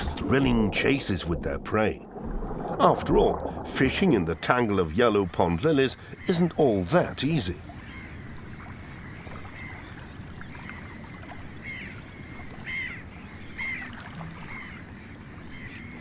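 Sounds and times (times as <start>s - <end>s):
water surface background noise: 0.0s - 15.6s.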